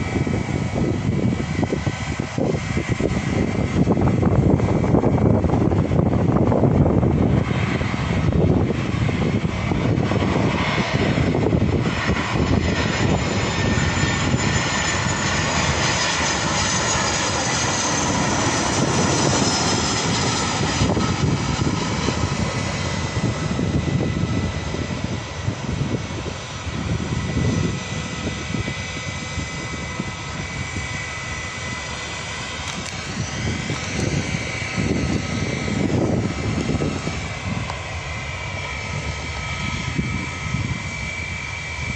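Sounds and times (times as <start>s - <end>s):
jet engines rumbling and whining: 0.0s - 41.9s.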